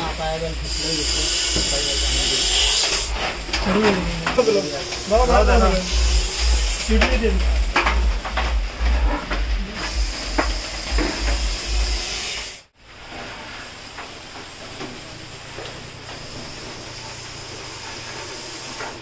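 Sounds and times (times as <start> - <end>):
snake hissing: 0.0 - 12.8, 13.4 - 19.0.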